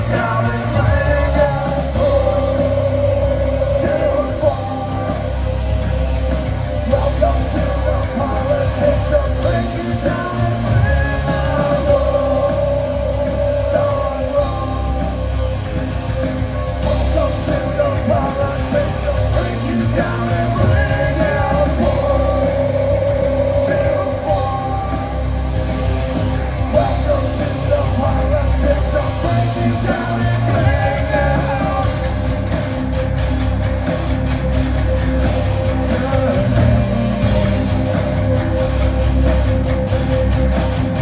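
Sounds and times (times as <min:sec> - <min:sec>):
heavy rock band playing: 0:00.0 - 0:41.0.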